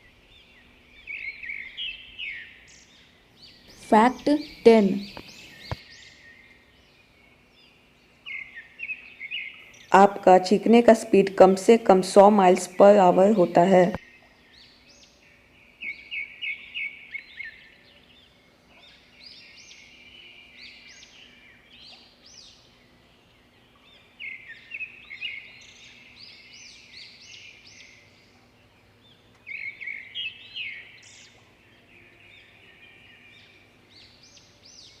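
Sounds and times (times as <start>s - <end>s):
birds chirping: 0.0s - 35.0s
faint steady background noise: 0.0s - 35.0s.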